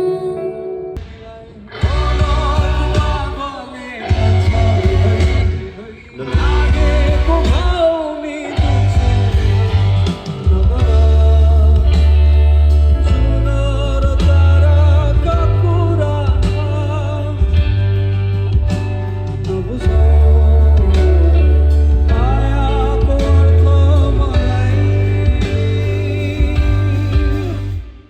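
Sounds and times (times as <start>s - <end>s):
electric guitar: 0.0s - 28.0s
heavy steady bass line: 1.8s - 7.9s, 8.6s - 28.0s.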